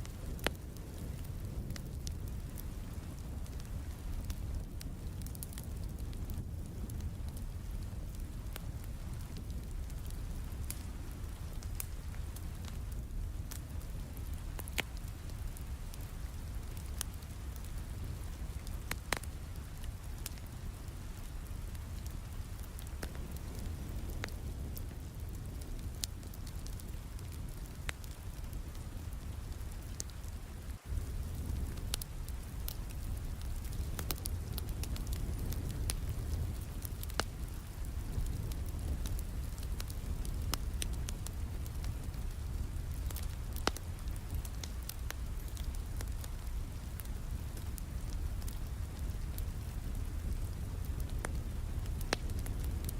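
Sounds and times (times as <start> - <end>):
steady rain: 0.0 - 52.9
wood fire crackling: 0.0 - 52.9.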